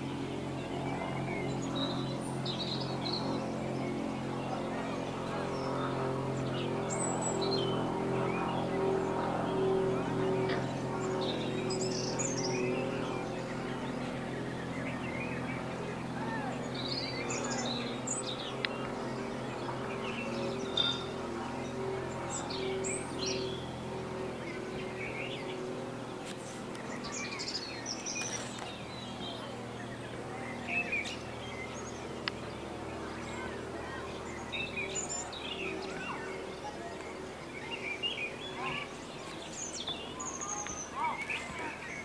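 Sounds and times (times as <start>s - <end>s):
small birds chirping: 0.0s - 42.0s
steady low hum: 0.0s - 42.0s.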